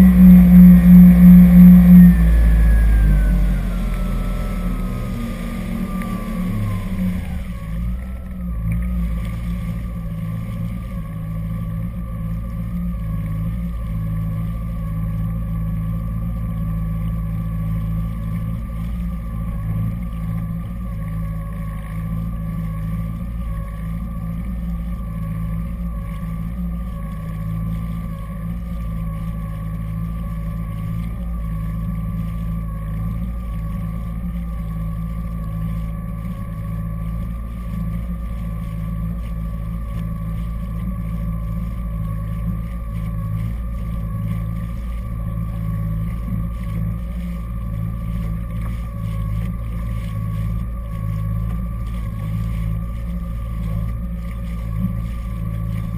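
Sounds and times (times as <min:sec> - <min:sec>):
faint steady whine: 0:00.0 - 0:55.9
jet ski engine droning: 0:00.0 - 0:55.9.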